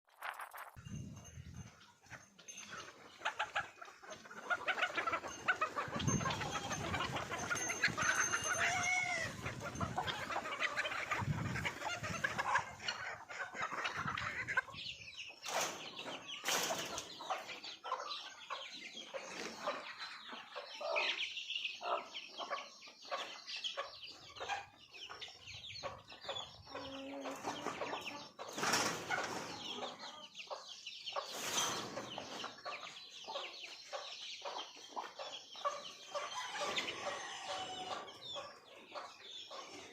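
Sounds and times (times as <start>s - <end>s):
chickens clucking and calling: 0.2s - 39.9s.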